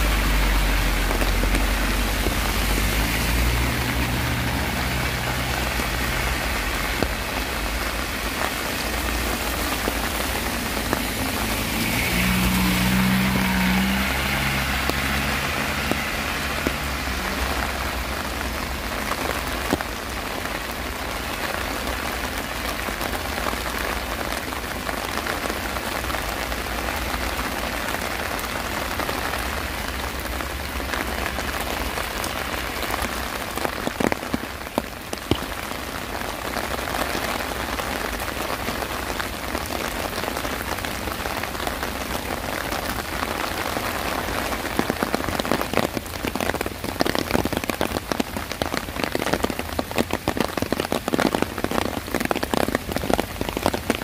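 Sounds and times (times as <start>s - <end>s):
rain on pavement: 0.0s - 54.0s.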